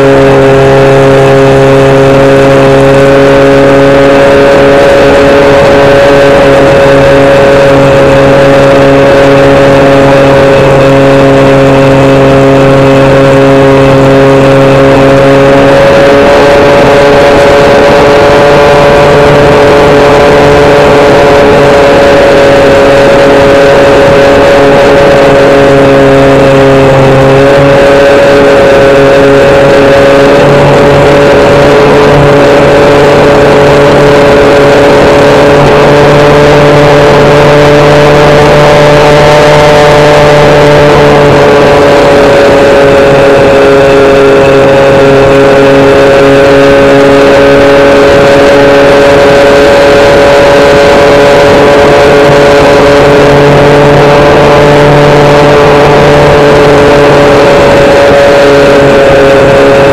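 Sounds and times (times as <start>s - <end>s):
electric motor and propeller whine: 0.0s - 59.9s.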